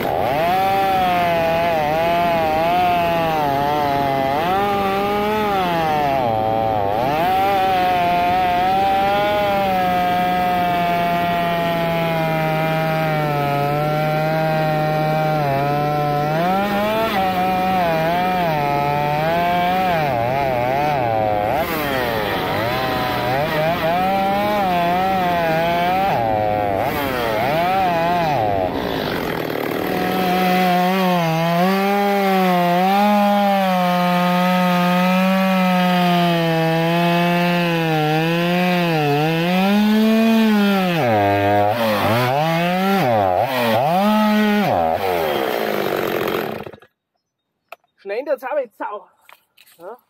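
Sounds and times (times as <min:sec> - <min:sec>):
chainsaw cutting logs: 0:00.0 - 0:47.0.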